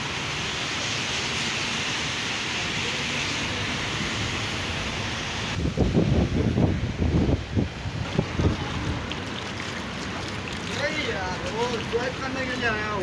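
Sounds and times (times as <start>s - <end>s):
low traffic rumble: 0.0s - 13.0s
traffic on wet streets hissing: 0.0s - 13.0s.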